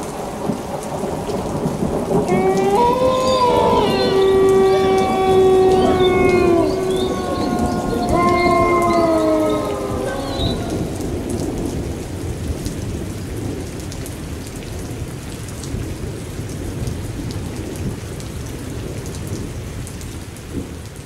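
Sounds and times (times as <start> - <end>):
rain patter: 0.0 - 21.0.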